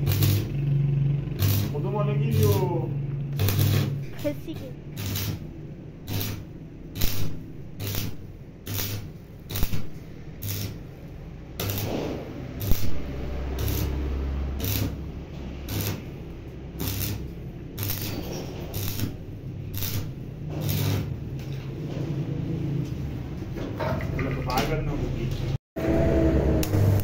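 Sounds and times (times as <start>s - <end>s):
welding arc crackling: 0.0s - 21.5s, 26.0s - 27.0s
low welding hum: 0.0s - 23.8s, 24.7s - 27.0s.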